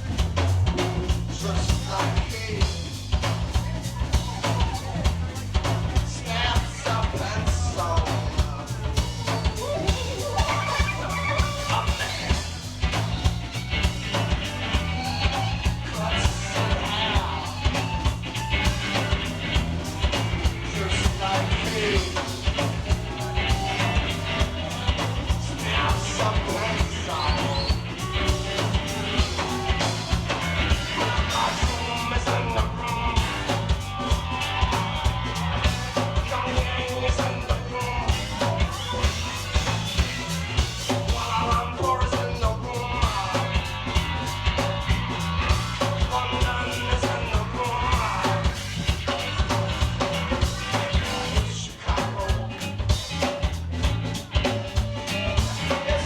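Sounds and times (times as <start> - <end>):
bass line: 0.0 - 56.0
fast drum beat: 0.0 - 56.0
rock band playing: 0.0 - 56.0.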